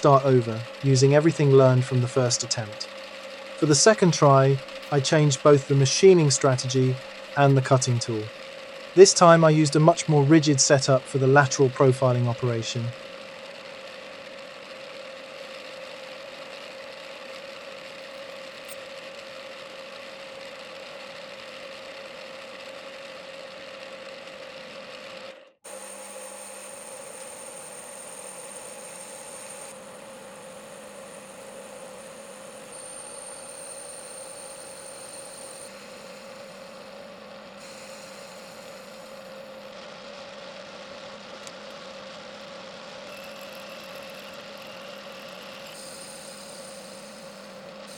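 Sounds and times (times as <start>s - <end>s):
lathe motor whine with hiss: 0.0s - 47.9s.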